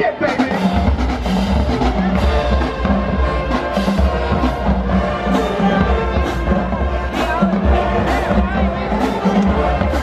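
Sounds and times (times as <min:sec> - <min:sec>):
bass drum beat: 0:00.3 - 0:10.0
brass playing: 0:00.5 - 0:10.0.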